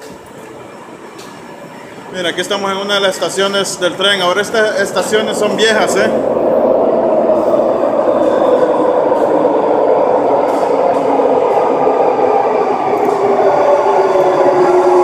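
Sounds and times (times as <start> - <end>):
train rumble and motor whine: 0.0 - 15.0.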